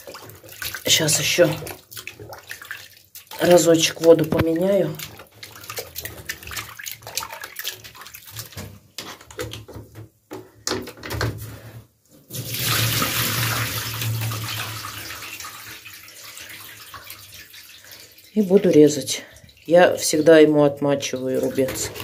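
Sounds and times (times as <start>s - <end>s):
water splashing in bathtub: 0.0s - 10.2s, 12.2s - 22.0s
tap water running into tub: 0.0s - 11.4s, 12.2s - 22.0s.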